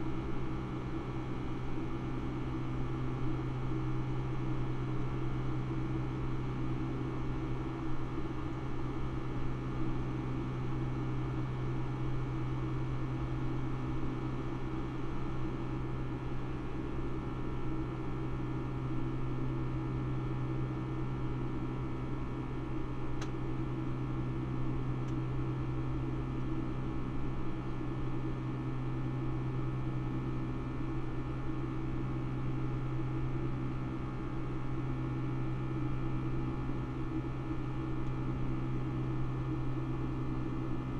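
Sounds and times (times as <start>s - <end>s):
jet engine cabin drone: 0.0s - 40.9s.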